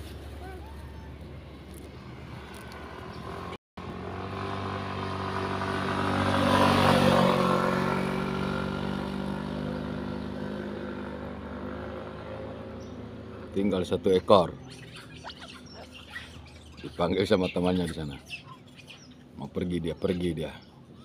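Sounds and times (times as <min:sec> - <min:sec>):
motorcycle engine passing: 0:00.0 - 0:19.3.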